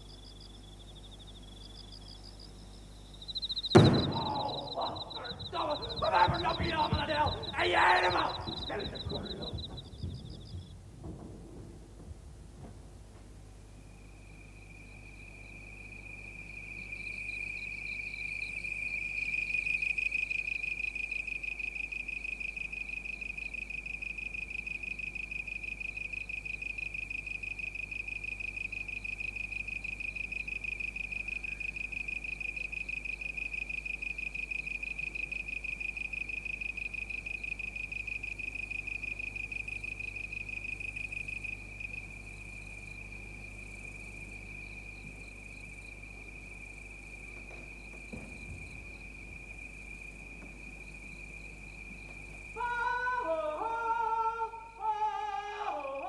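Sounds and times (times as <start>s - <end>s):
cricket chirping: 0.0s - 56.0s
faint low hum: 0.0s - 56.0s.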